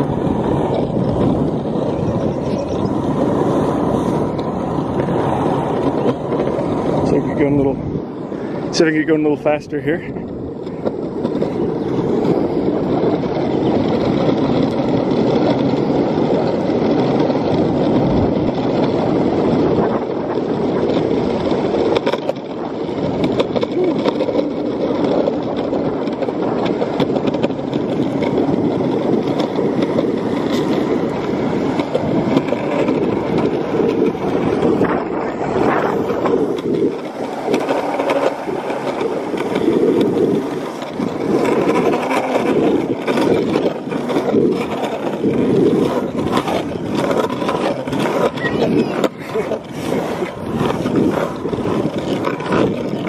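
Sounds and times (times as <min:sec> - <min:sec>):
longboard wheels rolling on concrete: 0:00.0 - 0:53.0
wheels clicking over seams: 0:00.0 - 0:53.0.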